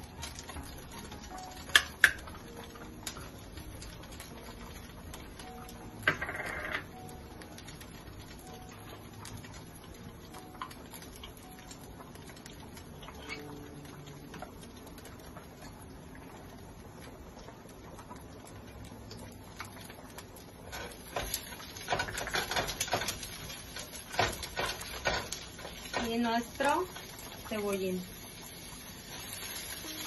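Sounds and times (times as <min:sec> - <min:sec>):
garlic sizzling in oil: 0:00.0 - 0:30.0.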